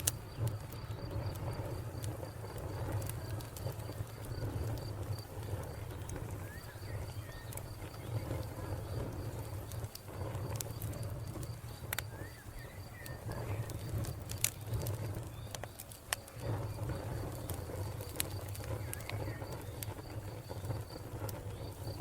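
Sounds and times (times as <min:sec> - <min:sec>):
crickets chirping: 0:00.0 - 0:22.0
wood fire crackling: 0:00.0 - 0:22.0.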